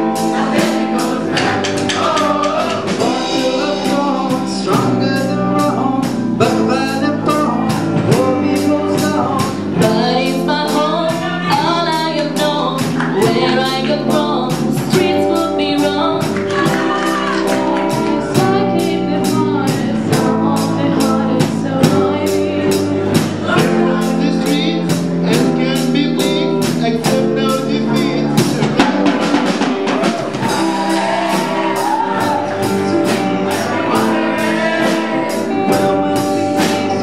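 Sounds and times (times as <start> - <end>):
woman singing: 0.0 - 26.6, 30.5 - 37.0
man singing: 0.0 - 37.0
steady beat: 0.0 - 37.0.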